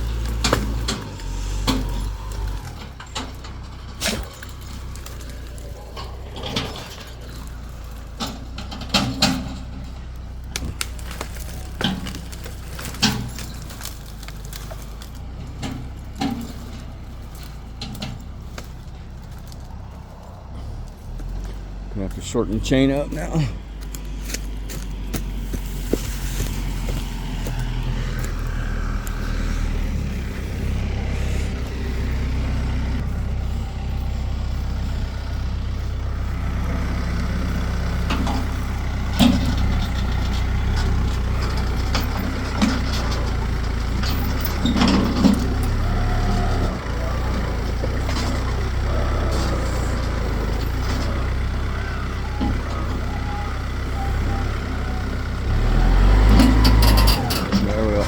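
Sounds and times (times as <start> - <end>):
large vehicle engine running: 0.0 - 58.0.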